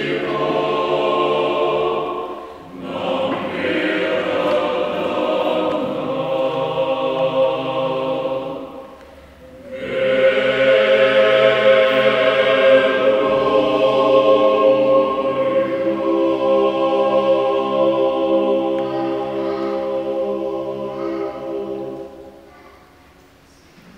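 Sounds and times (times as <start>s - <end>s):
church choir singing held chords: 0.0s - 23.4s.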